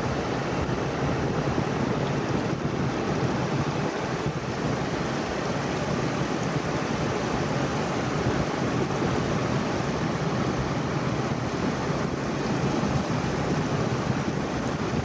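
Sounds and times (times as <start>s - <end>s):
ocean surf: 0.0s - 15.0s
wind on the beach: 0.0s - 15.0s.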